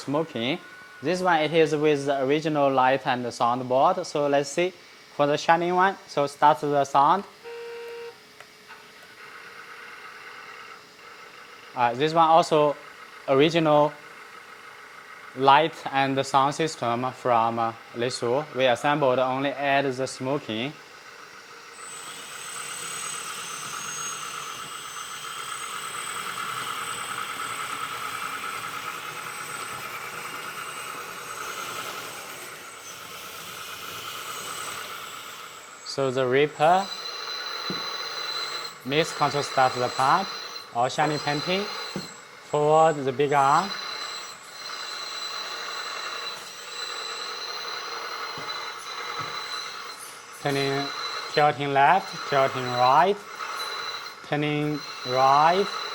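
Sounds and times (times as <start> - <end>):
thin high whine: 0.0 - 8.8, 15.4 - 55.9
simulated diesel engine sound: 9.6 - 55.9.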